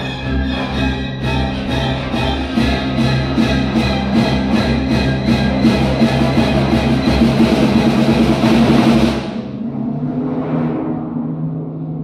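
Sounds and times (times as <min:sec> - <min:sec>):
orchestra playing: 0:00.0 - 0:09.8.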